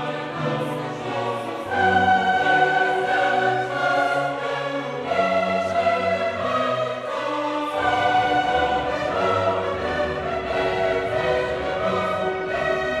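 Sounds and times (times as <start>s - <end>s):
choir-like voices: 0.0s - 13.0s
sustained strings: 0.0s - 13.0s.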